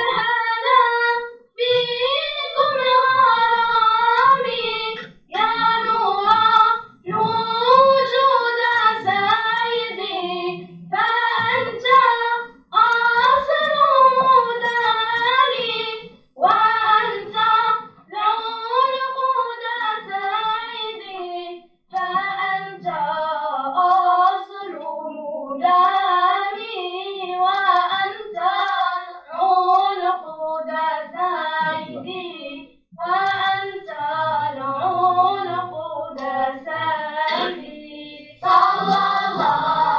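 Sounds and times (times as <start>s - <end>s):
children singing in unison: 0.0s - 39.9s.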